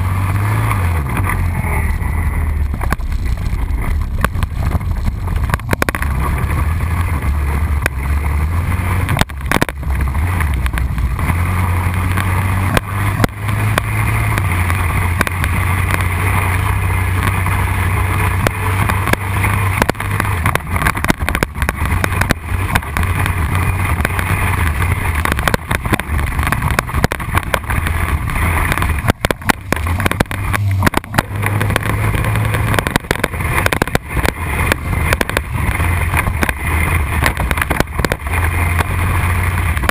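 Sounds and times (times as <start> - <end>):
atv engine revving: 0.0 - 39.9
gravel knocks: 0.0 - 39.9
wind rush on microphone: 0.0 - 39.9.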